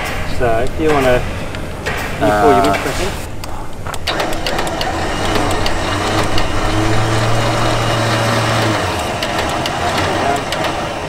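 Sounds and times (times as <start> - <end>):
winch motor humming: 0.0 - 11.0.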